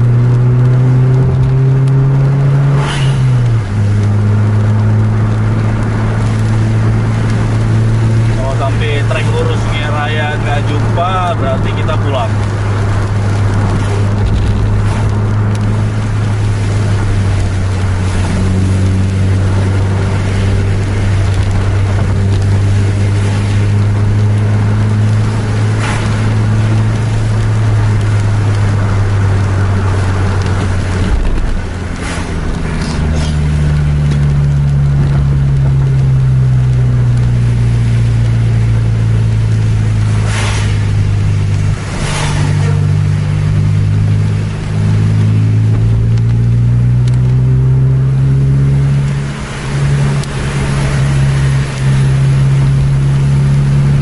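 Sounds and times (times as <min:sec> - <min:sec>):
tyre noise on wet road: 0:00.0 - 0:54.0
vehicle engine drone: 0:00.0 - 0:54.0.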